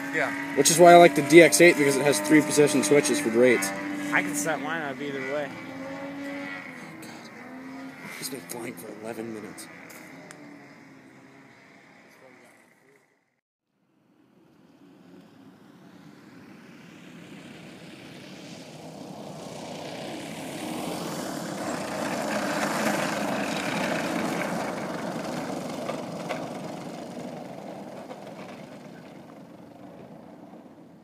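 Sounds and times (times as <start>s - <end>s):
model plane engine passing by: 0.0s - 31.0s.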